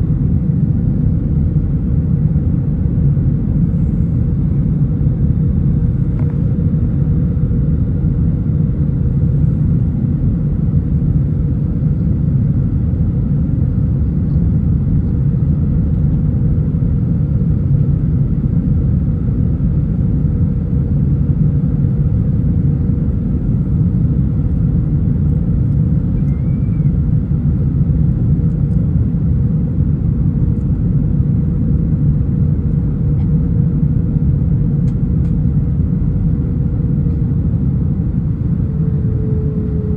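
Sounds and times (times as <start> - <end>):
aircraft cabin engine rumble: 0.0 - 39.9
mid-pitched hum: 0.0 - 39.9.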